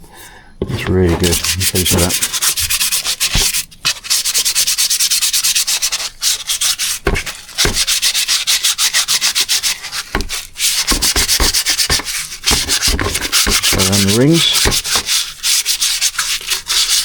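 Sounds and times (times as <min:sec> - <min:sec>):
sandpaper scraping on metal: 0:00.7 - 0:17.0.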